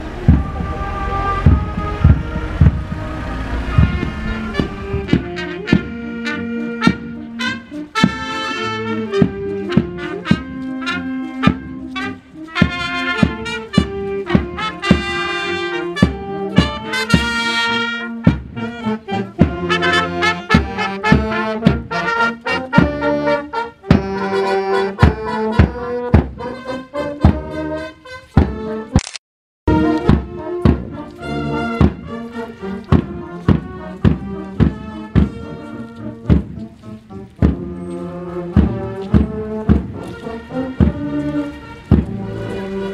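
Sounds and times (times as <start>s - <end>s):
marching drum beat: 0.0s - 27.8s, 28.4s - 28.8s, 29.7s - 42.9s
brass band playing a march: 0.0s - 29.0s, 29.7s - 42.9s.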